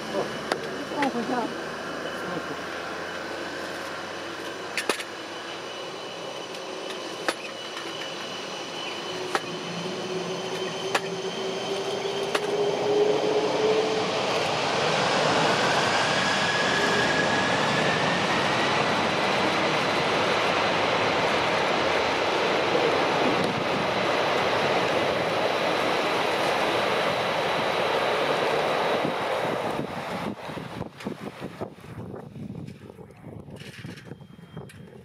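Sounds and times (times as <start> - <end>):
jet engines spooling up: 0.0 - 35.0.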